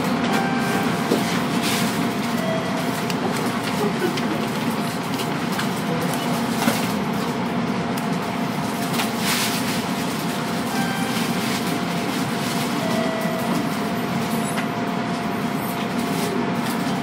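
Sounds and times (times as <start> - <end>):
on-board equipment hum: 0.0 - 17.0.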